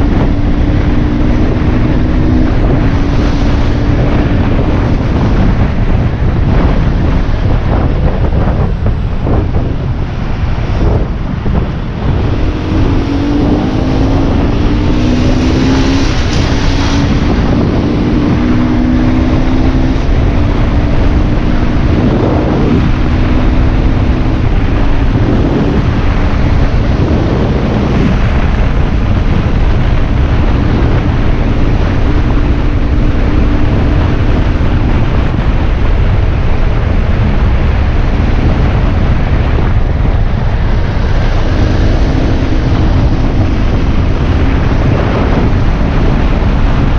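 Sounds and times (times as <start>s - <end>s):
motorbike engine accelerating: 0.0s - 46.9s
wind buffeting microphone: 0.0s - 46.9s.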